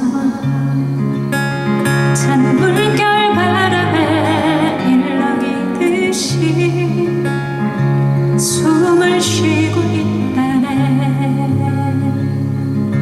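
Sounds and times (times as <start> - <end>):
woman singing with vibrato: 0.0 - 12.6
acoustic guitar: 0.0 - 13.0.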